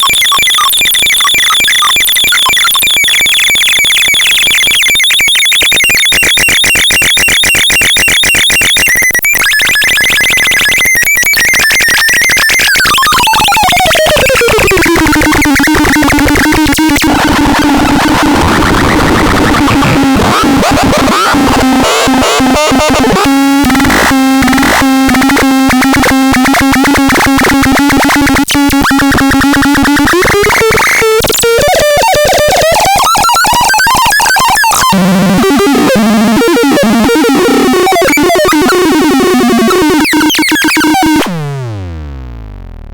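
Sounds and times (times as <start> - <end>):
synthesized electronic tones: 0.0 - 42.9.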